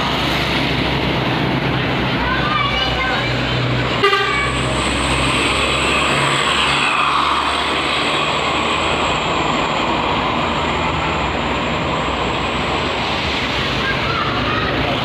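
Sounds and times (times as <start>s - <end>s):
bus engine passing: 0.0s - 15.0s
tyre and traffic noise: 0.0s - 15.0s.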